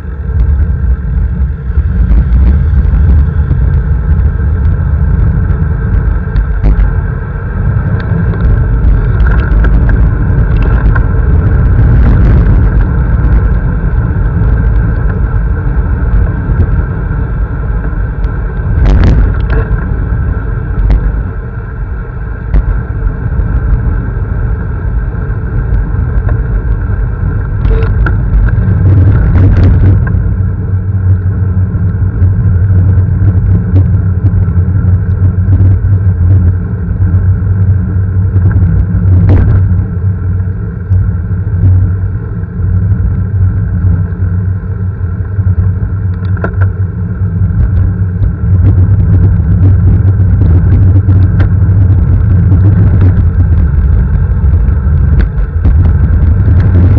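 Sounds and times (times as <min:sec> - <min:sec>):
small motorcycle engine running: 0:00.0 - 0:56.9
wind rumble on microphone: 0:00.0 - 0:56.9.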